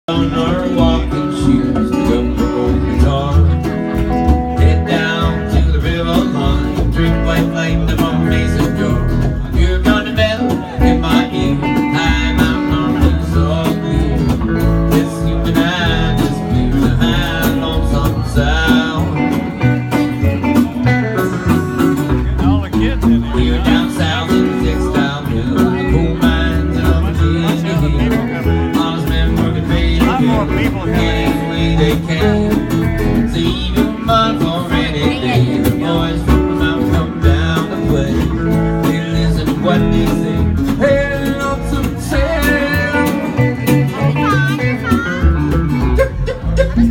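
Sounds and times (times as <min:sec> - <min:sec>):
acoustic guitar picked and strummed: 0:00.1 - 0:46.9.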